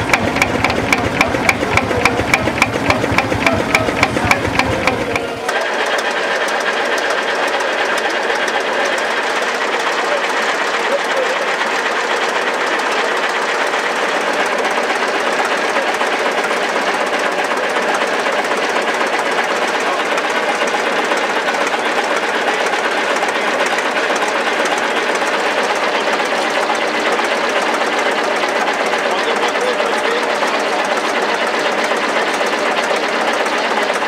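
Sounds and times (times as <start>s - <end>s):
tractor engine idling with knock: 0.0s - 34.0s.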